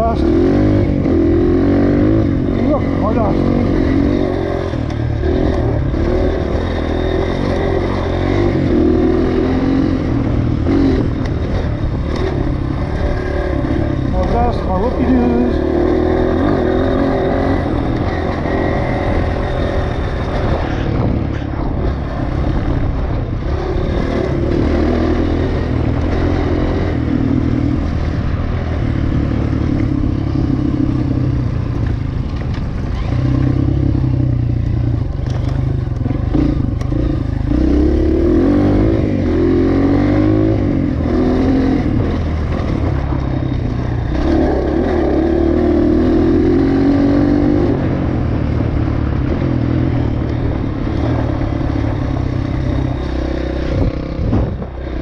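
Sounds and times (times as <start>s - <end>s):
dirt bike engine revving: 0.0s - 32.2s, 32.8s - 55.0s.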